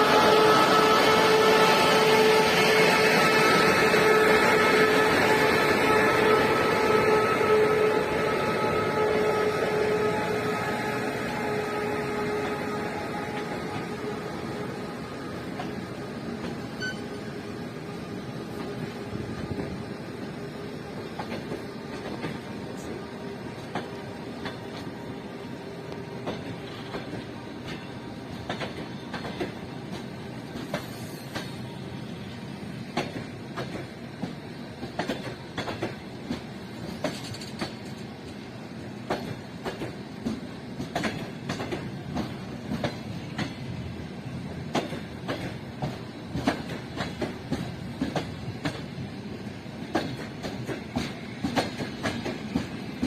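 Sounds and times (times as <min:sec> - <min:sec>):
train rolling rumble: 0:00.0 - 0:53.0
train wheels clacking: 0:00.0 - 0:53.0.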